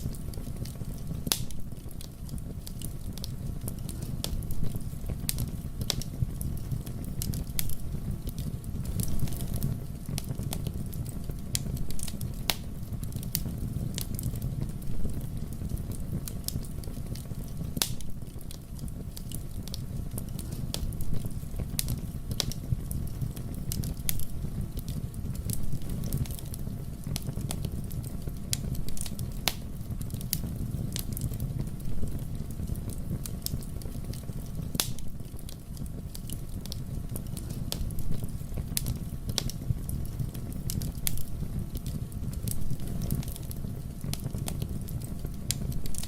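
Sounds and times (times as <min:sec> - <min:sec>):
fire crackling and popping: 0:00.0 - 0:46.0
low rumble of flame: 0:00.0 - 0:46.0.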